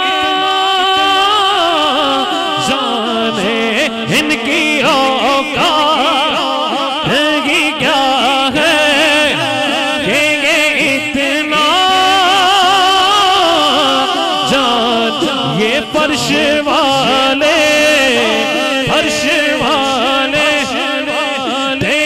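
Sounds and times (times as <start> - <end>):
man singing ornamented melody: 0.0 - 22.0.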